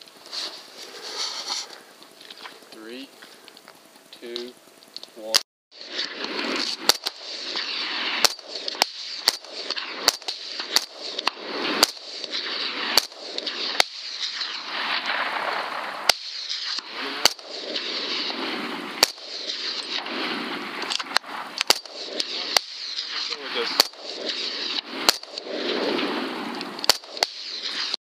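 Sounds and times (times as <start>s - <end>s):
continuous rushing noise: 4.0s - 28.0s
rifle shots: 5.3s - 28.0s.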